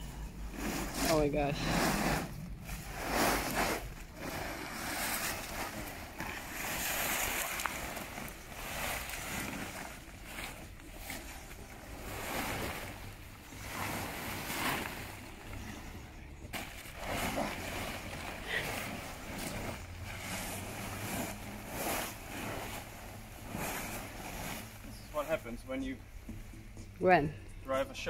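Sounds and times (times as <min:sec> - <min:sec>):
plastic tarpaulins rustling: 0:00.0 - 0:26.4.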